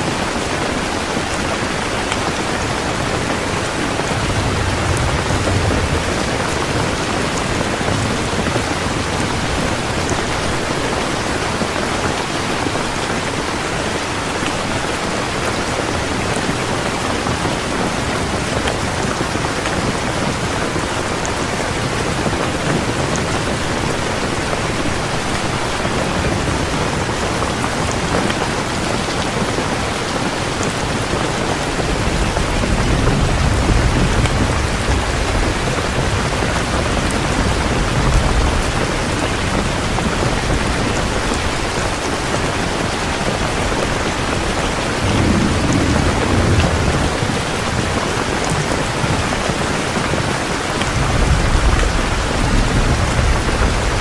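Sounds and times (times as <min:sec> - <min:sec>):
heavy rain pouring: 0:00.0 - 0:54.0
thunder rumbling: 0:00.2 - 0:13.4, 0:14.7 - 0:54.0.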